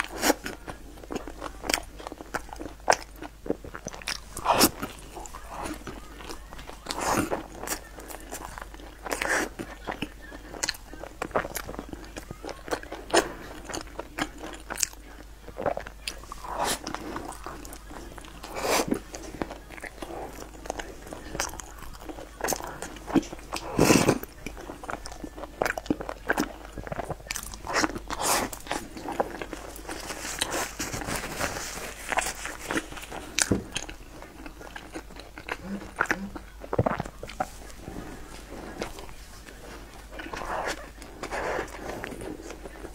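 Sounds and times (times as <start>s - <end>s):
chewing and biting pastry: 0.0s - 42.9s.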